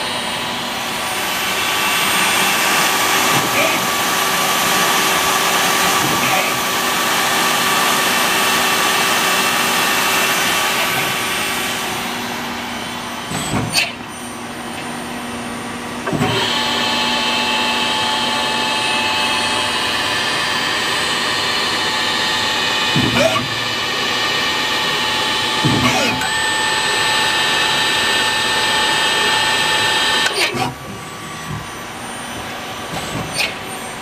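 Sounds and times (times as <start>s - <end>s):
machinery whirring hum: 0.0s - 34.0s.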